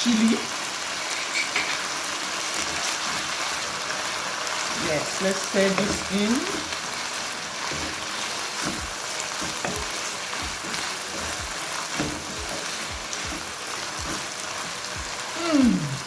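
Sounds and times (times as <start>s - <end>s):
meat sizzling in a hot pan: 0.0s - 16.0s
utensil stirring against pan: 0.0s - 16.0s.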